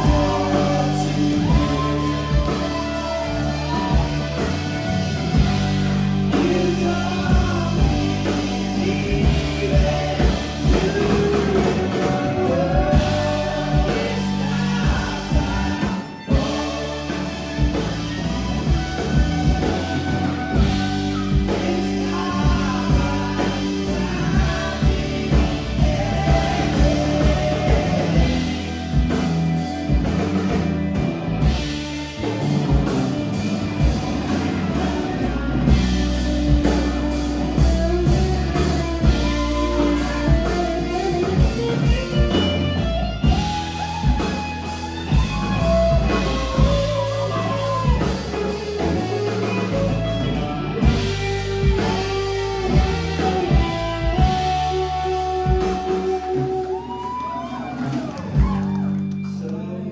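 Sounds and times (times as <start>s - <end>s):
person singing: 0.0s - 30.5s, 32.3s - 59.9s
drum kit: 0.0s - 59.2s
guitar: 0.0s - 59.9s.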